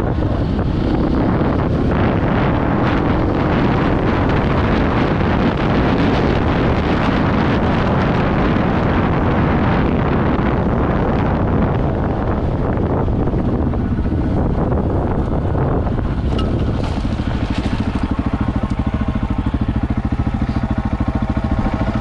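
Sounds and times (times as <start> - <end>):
motorcycle engine drone: 0.0 - 22.0
wind buffeting microphone: 0.0 - 22.0.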